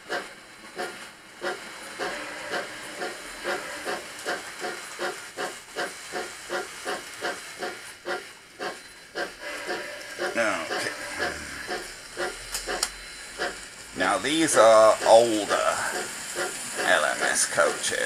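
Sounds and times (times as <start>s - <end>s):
steam locomotive hissing chuff: 0.0s - 18.0s.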